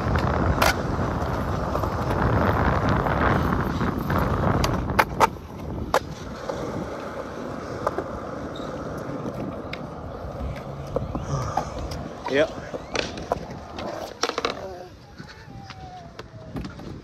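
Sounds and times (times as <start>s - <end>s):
skateboard clacks: 0.0s - 17.0s
skateboard wheels rolling on concrete: 0.0s - 17.0s.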